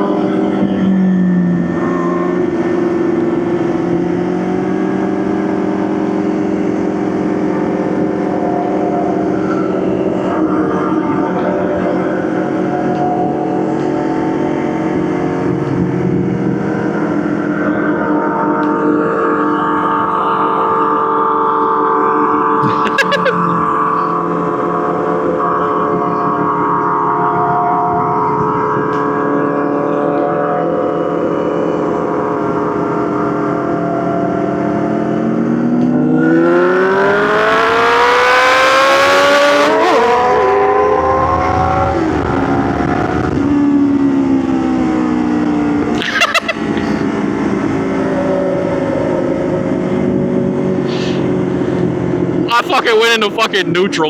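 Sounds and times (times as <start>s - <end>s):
motorcycle engine accelerating: 0.0s - 19.8s, 22.2s - 52.5s.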